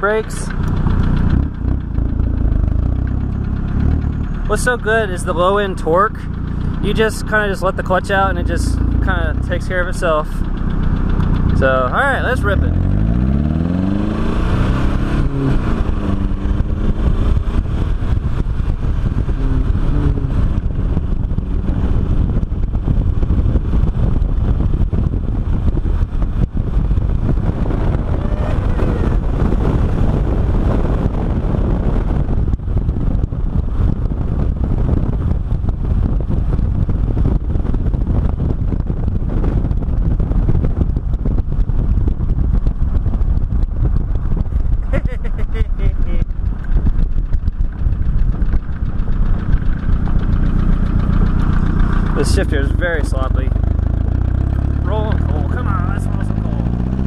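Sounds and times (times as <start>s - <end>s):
diesel engine pulling away: 0.0s - 57.0s
wind noise: 0.0s - 57.0s.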